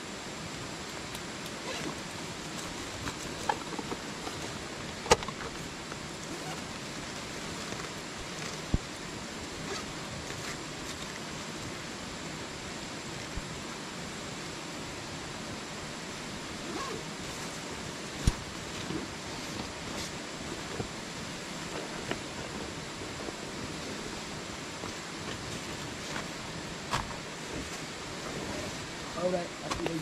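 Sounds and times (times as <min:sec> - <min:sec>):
river and waterfalls rushing: 0:00.0 - 0:30.0.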